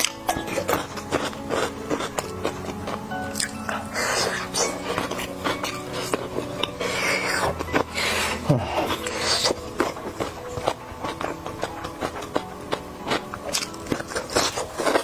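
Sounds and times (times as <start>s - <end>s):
chewing and wet mouth noises: 0.0s - 15.0s.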